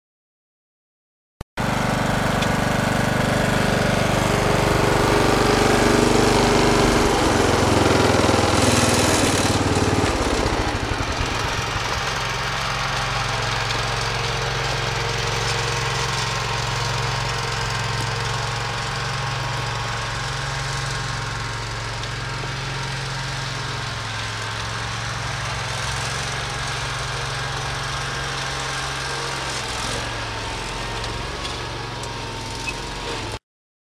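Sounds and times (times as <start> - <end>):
ride-on mower engine running: 1.6 - 33.4.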